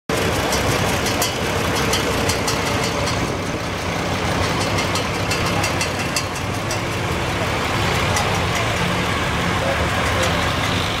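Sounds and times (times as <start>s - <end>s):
tractor engine idling: 0.1s - 11.0s.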